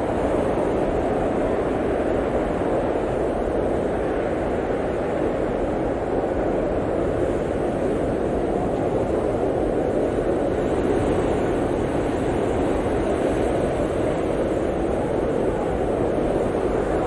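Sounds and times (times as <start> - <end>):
blizzard wind rushing: 0.0 - 17.0.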